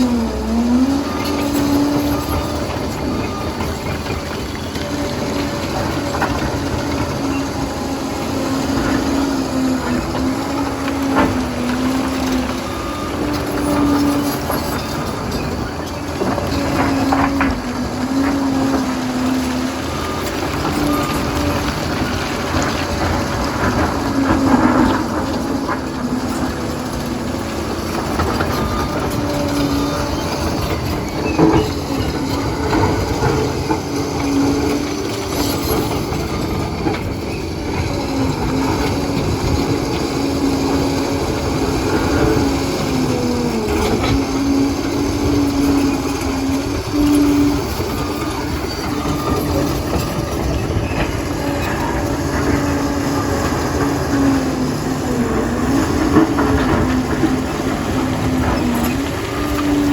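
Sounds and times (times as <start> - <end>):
diesel engine whining under load: 0.0 - 59.9.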